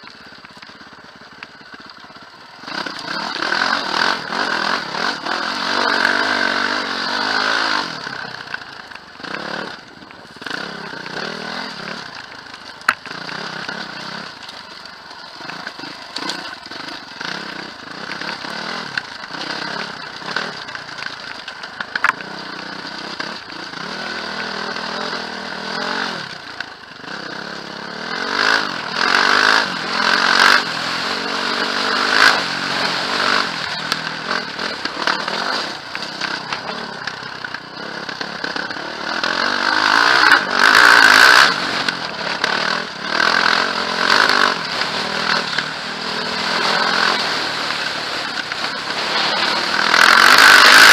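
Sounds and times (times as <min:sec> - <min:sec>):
quad bike engine revving: 0:00.0 - 0:50.9.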